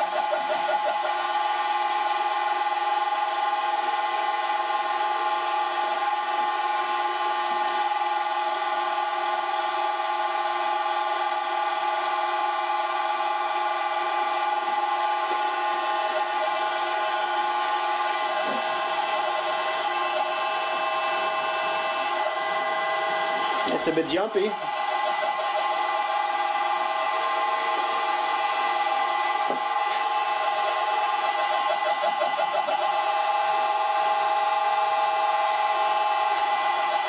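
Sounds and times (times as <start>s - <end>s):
electric motor whine: 0.0s - 37.0s.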